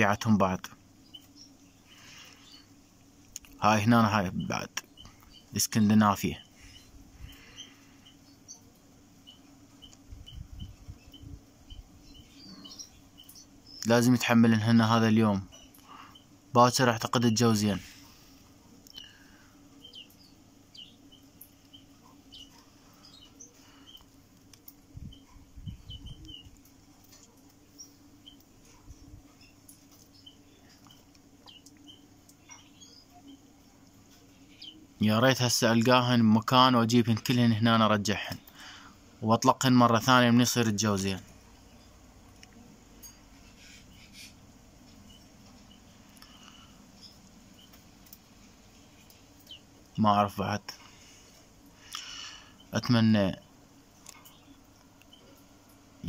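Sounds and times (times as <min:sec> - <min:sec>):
small birds chirping faintly: 0:00.0 - 0:56.0.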